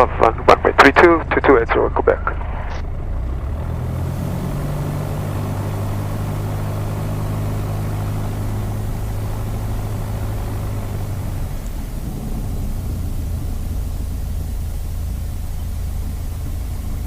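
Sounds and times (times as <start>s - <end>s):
aircraft engine and propeller humming: 0.0s - 17.0s.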